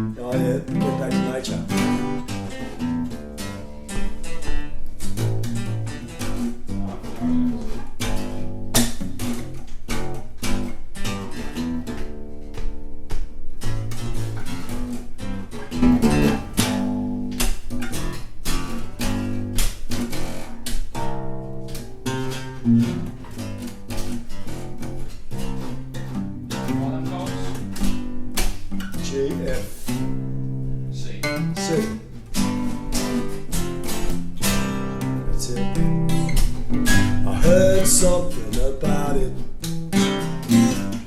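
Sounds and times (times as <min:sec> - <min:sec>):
acoustic bass guitar line: 0:00.0 - 0:41.0
acoustic guitars strumming chords: 0:00.0 - 0:41.0.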